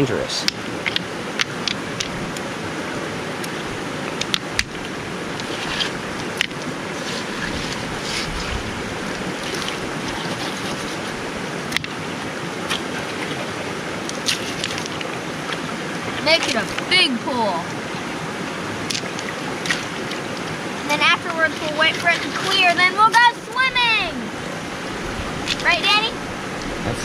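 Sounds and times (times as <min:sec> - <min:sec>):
stream running over stones: 0:00.0 - 0:27.0.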